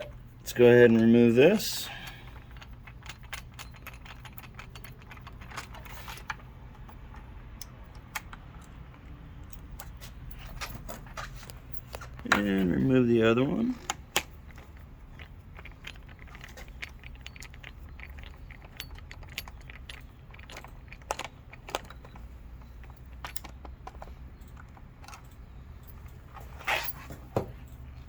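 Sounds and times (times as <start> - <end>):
steady low hum: 0.0 - 28.0
metallic clicks of key and screws: 0.9 - 28.0
metal clatter: 1.6 - 28.0.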